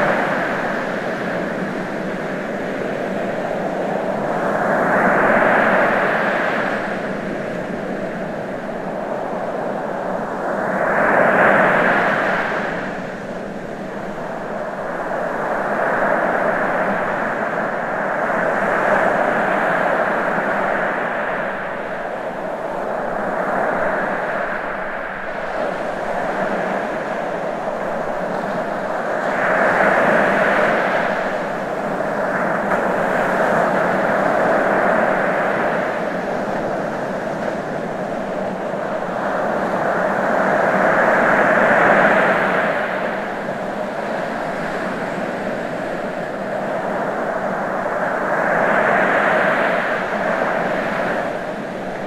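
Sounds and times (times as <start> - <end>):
ocean waves breaking: 0.0 - 52.0.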